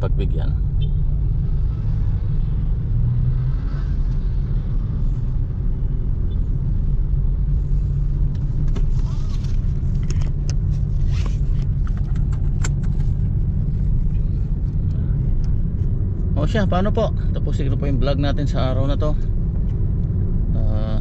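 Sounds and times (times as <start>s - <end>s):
car engine and road noise drone: 0.0s - 21.0s.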